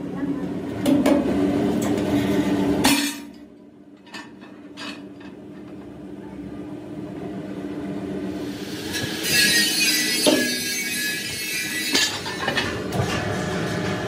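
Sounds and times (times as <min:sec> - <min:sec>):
industrial press loud hum: 0:00.0 - 0:14.0.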